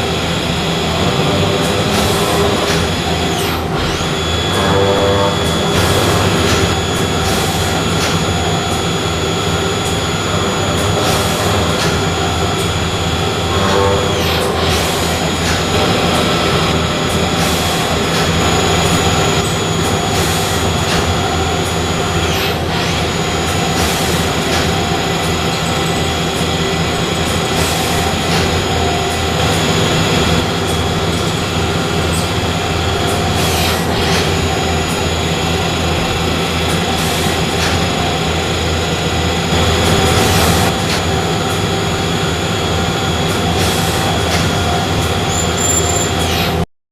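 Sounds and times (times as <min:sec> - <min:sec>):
machining centre whining: 0:00.0 - 0:46.7.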